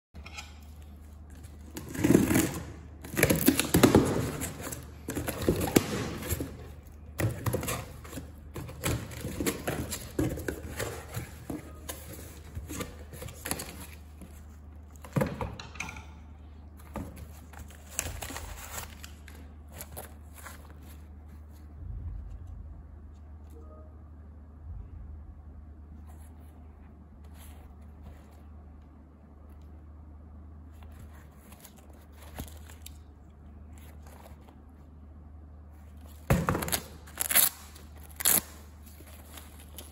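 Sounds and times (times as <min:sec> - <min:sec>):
steady low hum: 0:00.2 - 0:39.9.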